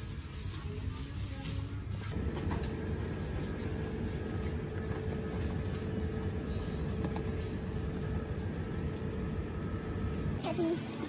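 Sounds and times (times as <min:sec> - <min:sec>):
low shop rumble: 0:00.0 - 0:11.0.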